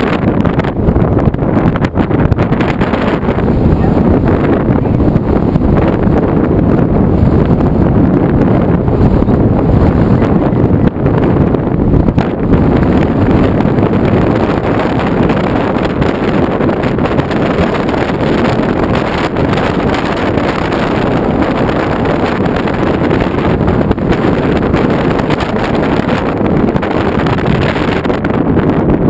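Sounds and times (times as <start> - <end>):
vehicle road and engine noise: 0.0 - 29.0
wind buffeting microphone: 0.0 - 29.0.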